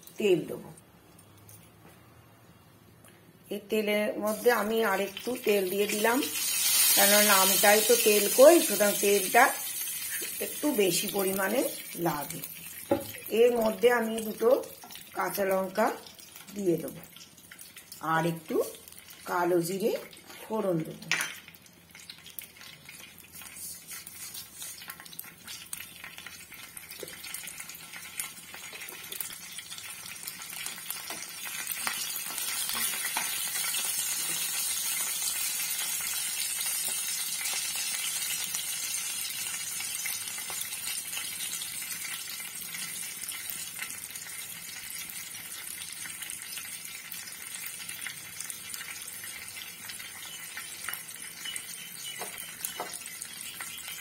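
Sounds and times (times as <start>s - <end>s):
seeds sizzling in hot oil: 4.2s - 20.4s, 21.2s - 54.0s.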